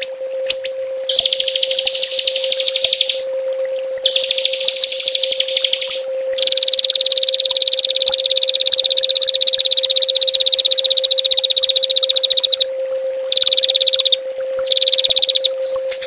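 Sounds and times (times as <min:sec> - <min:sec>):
songbird rapid trills: 0:00.0 - 0:03.2, 0:04.0 - 0:12.7, 0:13.3 - 0:16.0
steady low tone: 0:00.0 - 0:16.0.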